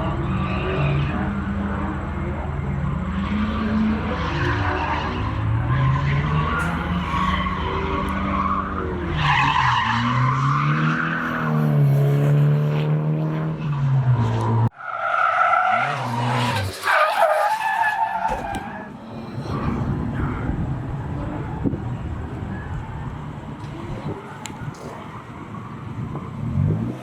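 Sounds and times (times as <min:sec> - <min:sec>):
car engine revving: 0:00.0 - 0:14.8, 0:15.4 - 0:27.0.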